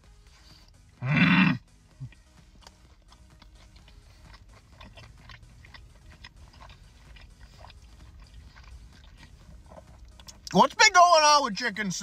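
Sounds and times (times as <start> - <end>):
person chewing: 0.0 - 10.6.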